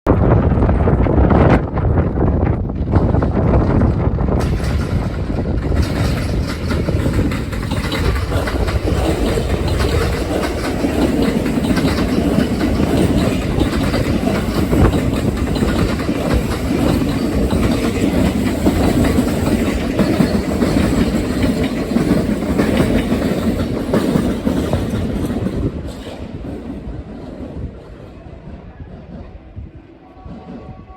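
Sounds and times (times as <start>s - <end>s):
train wheels clacking over rail joints: 2.7s - 28.6s.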